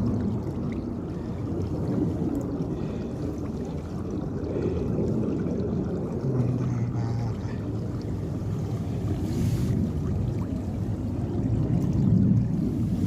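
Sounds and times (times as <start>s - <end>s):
water rushing in channel: 0.0s - 13.0s.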